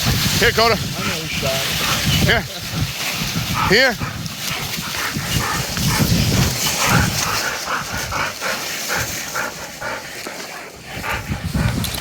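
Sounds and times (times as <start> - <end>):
dog panting: 1.0 - 12.0.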